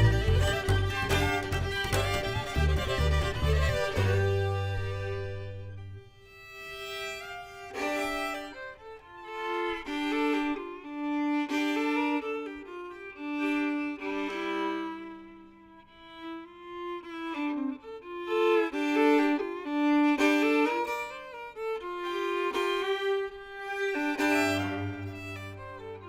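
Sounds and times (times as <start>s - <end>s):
fiddle playing quick melody: 0.0s - 26.0s.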